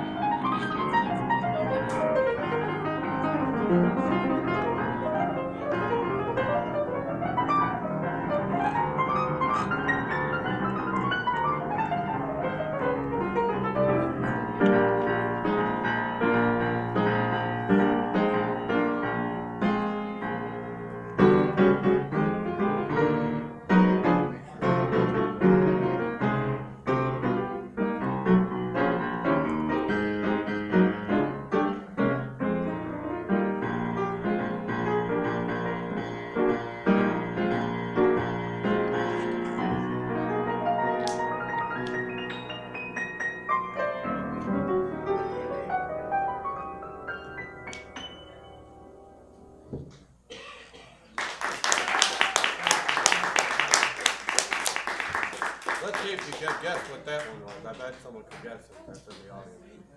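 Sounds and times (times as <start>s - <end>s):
solo jazz piano: 0.0s - 50.3s.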